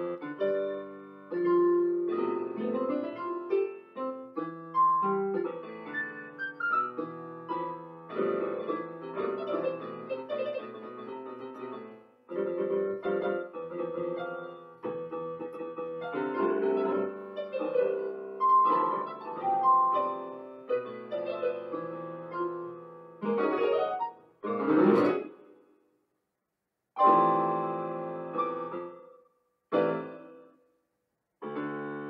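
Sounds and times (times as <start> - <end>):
electronic keyboard piano piece: 0.0 - 25.5, 27.0 - 30.6, 31.4 - 32.0.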